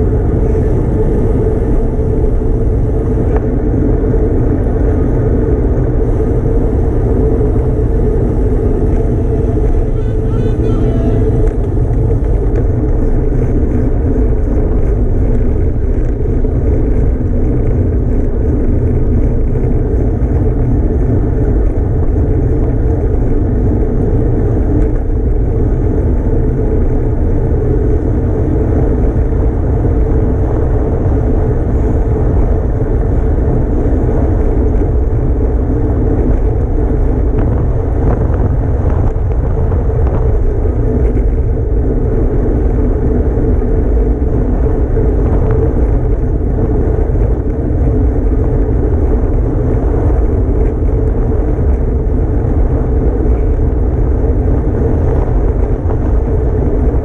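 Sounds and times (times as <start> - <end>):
tyre and road noise: 0.0 - 57.0
wind buffeting microphone: 0.0 - 57.0.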